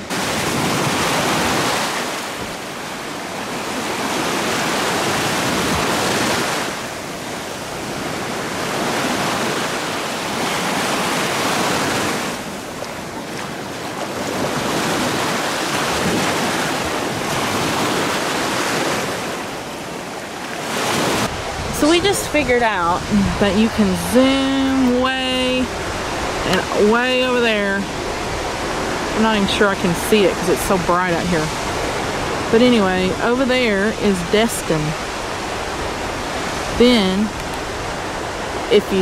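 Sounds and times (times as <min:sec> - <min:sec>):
surf breaking on beach: 0:00.0 - 0:39.0.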